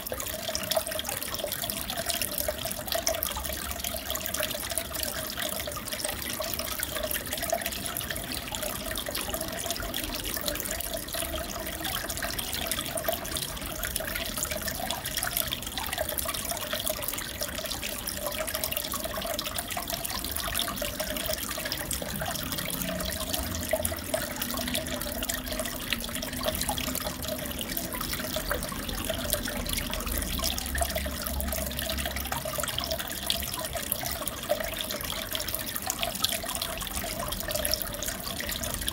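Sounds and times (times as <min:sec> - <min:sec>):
water trickling and bubbling: 0:00.0 - 0:38.9.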